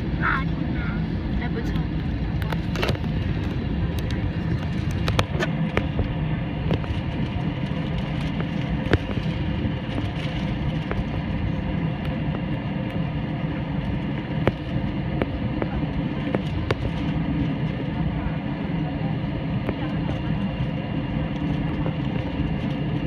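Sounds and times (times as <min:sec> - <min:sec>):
jet engine and airflow rumble: 0:00.0 - 0:23.0.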